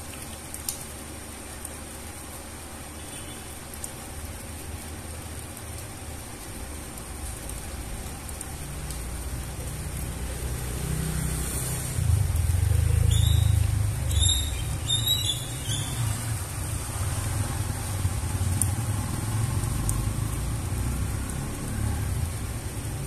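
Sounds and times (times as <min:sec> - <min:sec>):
rain on pavement: 0:00.0 - 0:23.0.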